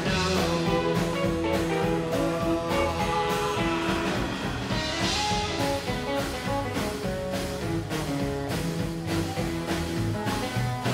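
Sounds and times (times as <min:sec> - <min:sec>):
guitars playing: 0:00.0 - 0:10.9
steady drum beat: 0:00.0 - 0:10.9.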